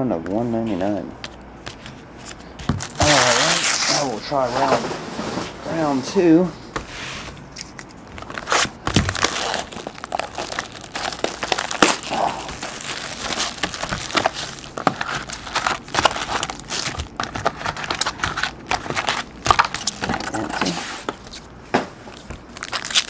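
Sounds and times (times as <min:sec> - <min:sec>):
plastic wrap crinkling: 0:01.7 - 0:04.8, 0:07.5 - 0:23.0
foil packs rustling: 0:01.7 - 0:06.6, 0:08.0 - 0:23.0.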